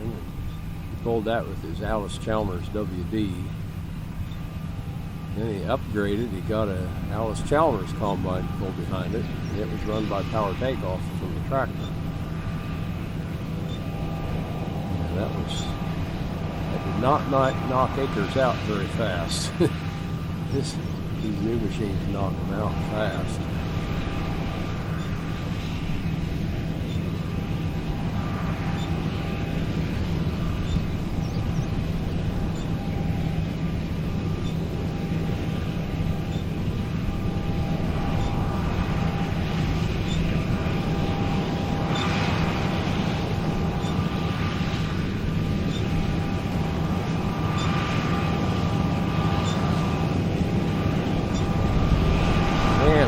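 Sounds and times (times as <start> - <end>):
combine harvester engine drone: 0.0 - 53.0.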